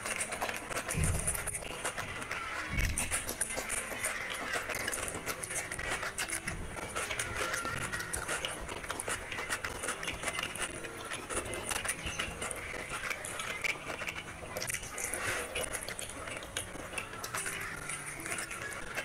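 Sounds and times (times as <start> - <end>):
fingers mixing rice on plate: 0.0 - 19.0
small clicks and smacks: 0.0 - 19.0
wet chewing: 0.0 - 19.0.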